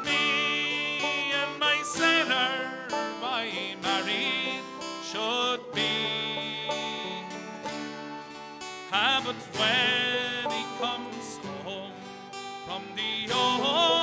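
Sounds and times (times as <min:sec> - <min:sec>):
folk band playing: 0:00.0 - 0:14.0
strummed acoustic guitar: 0:00.0 - 0:14.0
wavering melody line: 0:00.0 - 0:14.0.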